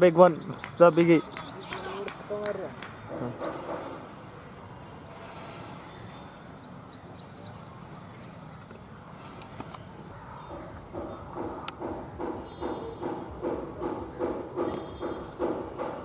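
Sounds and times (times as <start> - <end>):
birds chirping: 0.0 - 16.0
outdoor background noise: 0.0 - 16.0.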